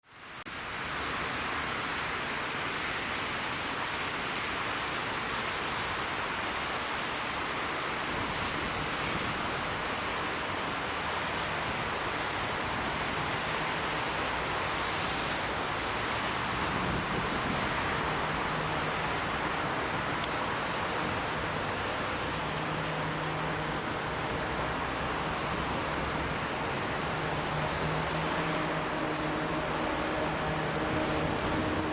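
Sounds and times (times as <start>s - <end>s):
steady rushing outdoor noise: 0.1s - 31.9s
diesel locomotive hum: 5.9s - 31.9s.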